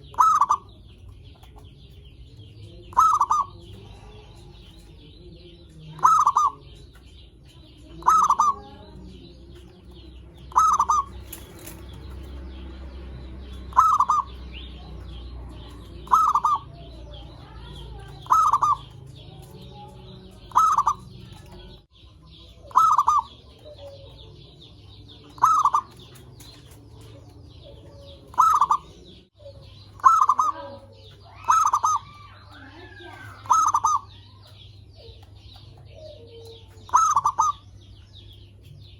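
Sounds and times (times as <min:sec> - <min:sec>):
dove cooing: 0:00.0 - 0:01.8, 0:02.5 - 0:07.2, 0:07.8 - 0:12.2, 0:13.2 - 0:21.8, 0:22.4 - 0:37.7.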